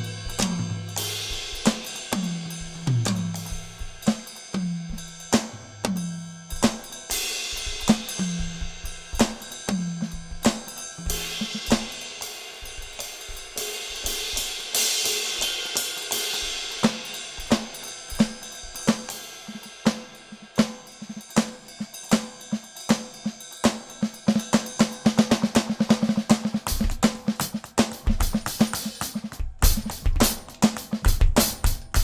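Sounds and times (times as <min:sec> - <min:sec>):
cymbals washing: 0:00.0 - 0:32.0
electronic drum kit beat: 0:00.0 - 0:32.0.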